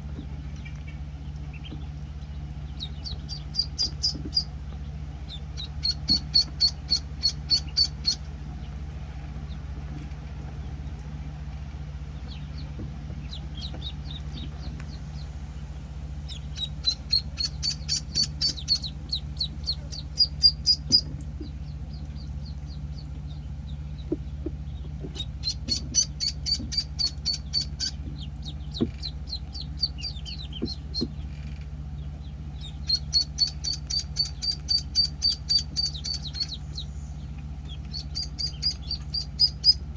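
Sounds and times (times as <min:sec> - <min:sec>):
ducklings peeping: 0:00.0 - 0:39.9
steady low hum: 0:00.0 - 0:39.9.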